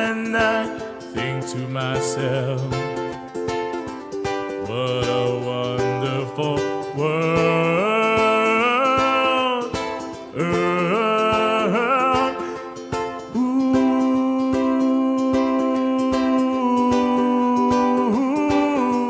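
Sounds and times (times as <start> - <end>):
person singing long gliding notes: 0.0 - 3.3, 4.6 - 19.0
plucked strings strummed: 0.0 - 19.0.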